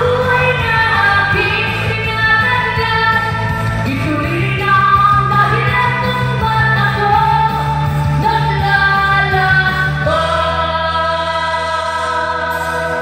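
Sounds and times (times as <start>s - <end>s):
backing music: 0.0s - 13.0s
person singing into microphone: 0.0s - 13.0s.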